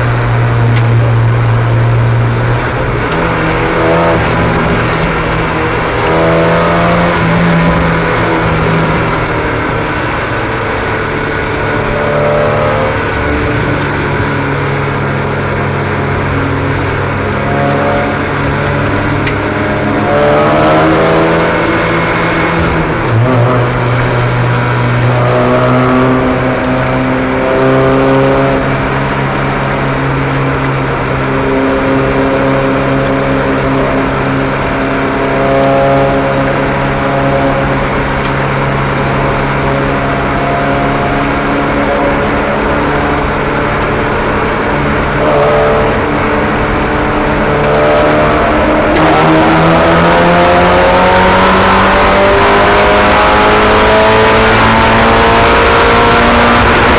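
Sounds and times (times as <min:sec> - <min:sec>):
small race car engines: 0:00.0 - 0:56.9.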